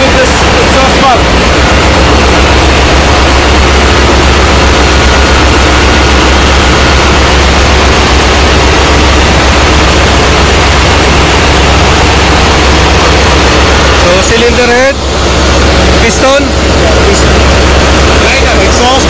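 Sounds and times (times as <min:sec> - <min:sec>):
engine room machinery: 0:00.0 - 0:19.0
low hum: 0:00.0 - 0:19.0.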